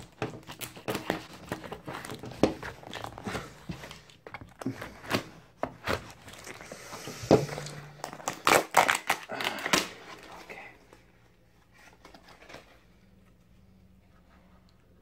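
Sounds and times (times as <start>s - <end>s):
cardboard crackles: 0.0s - 13.4s.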